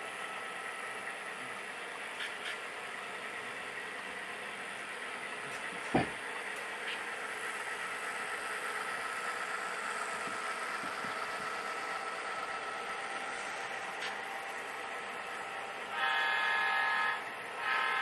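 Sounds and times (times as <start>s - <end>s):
diesel engine sound through small speaker: 0.0s - 18.0s.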